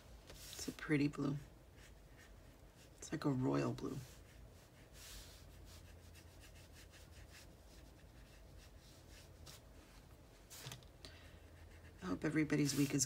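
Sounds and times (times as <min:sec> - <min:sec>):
low steady hum: 0:00.0 - 0:13.0
brush rubbing on paper: 0:00.3 - 0:10.6, 0:11.5 - 0:13.0.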